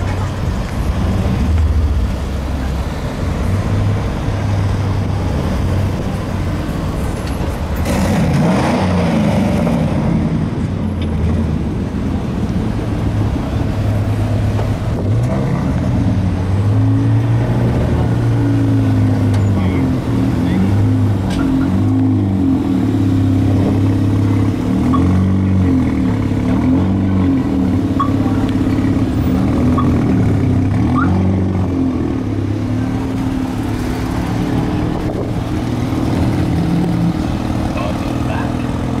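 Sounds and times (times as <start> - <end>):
pickup trucks driving past: 0.0 - 39.0.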